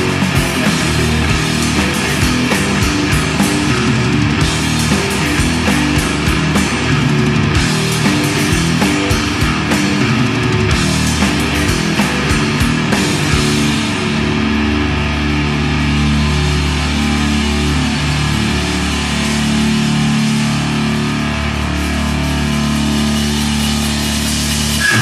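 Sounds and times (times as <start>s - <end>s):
distorted doom metal music: 0.0s - 25.0s.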